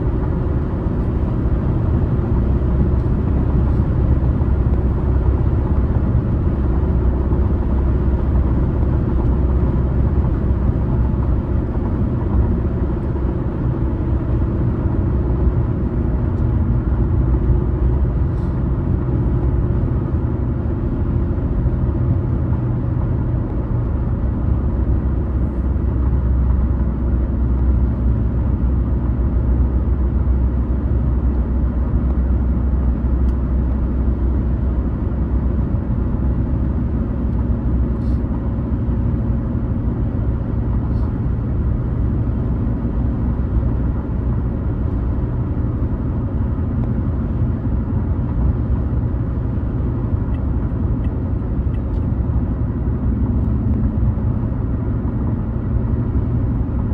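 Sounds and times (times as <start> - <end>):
car driving on road: 0.0 - 56.9.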